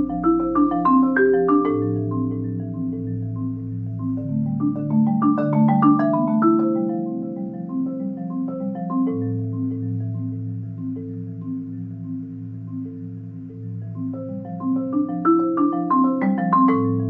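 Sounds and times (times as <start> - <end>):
marimba playing: 0.0 - 17.0.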